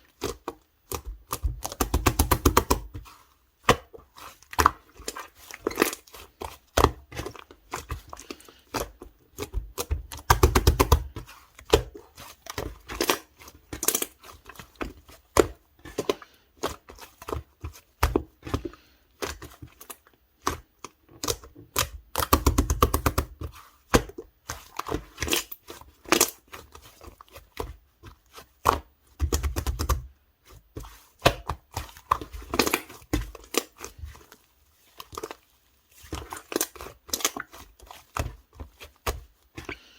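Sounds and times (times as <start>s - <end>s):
slime squished by hand: 0.0s - 39.8s.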